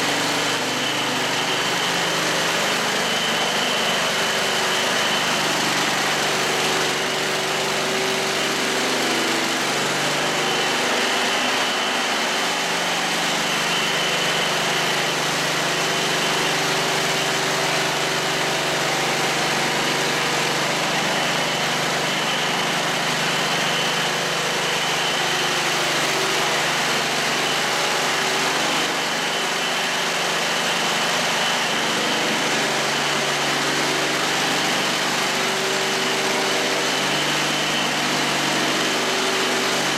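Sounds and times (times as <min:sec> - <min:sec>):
concrete grinder running: 0:00.0 - 0:39.9.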